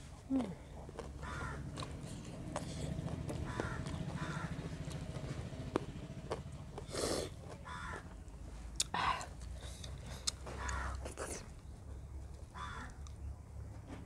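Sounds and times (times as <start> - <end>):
steady low hum: 0.0 - 13.6
closed-mouth chewing: 0.1 - 12.0.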